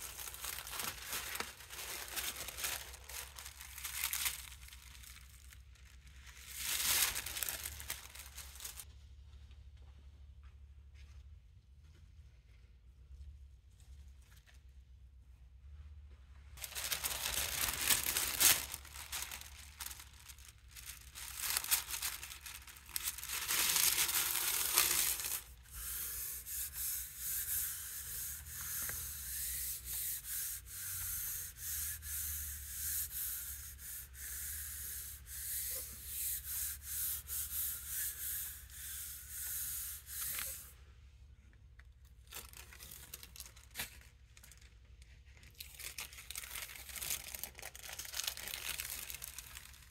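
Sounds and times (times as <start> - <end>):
tissue paper crackling: 0.0 - 8.8, 16.6 - 40.7, 42.2 - 49.9.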